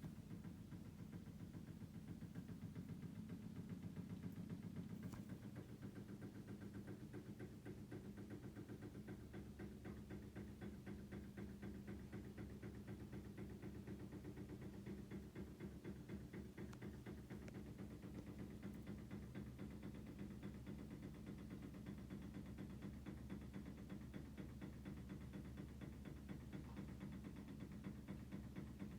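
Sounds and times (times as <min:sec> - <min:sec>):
washing machine humming: 0:00.0 - 0:28.9.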